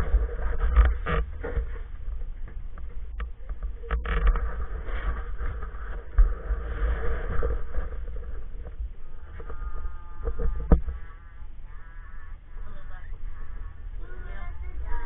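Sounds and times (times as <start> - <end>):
gondola cabin rumble: 0.0 - 15.0.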